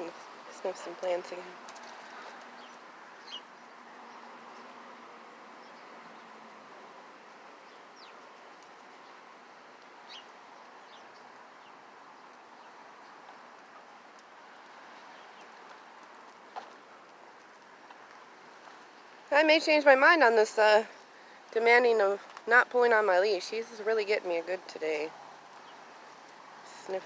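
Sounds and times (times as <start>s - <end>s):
small birds chirping: 0.0s - 6.5s, 7.2s - 27.0s
outdoor background noise: 0.0s - 27.0s.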